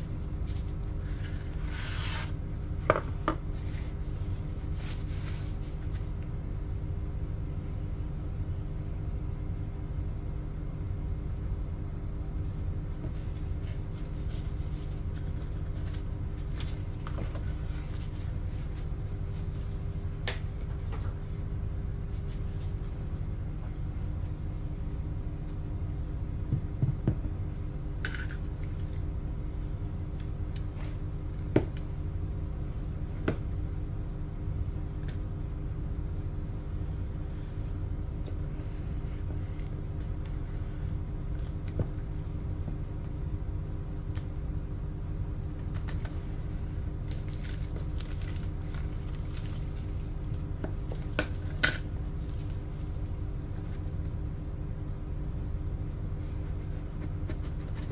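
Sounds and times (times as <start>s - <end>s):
low room hum: 0.0s - 57.9s.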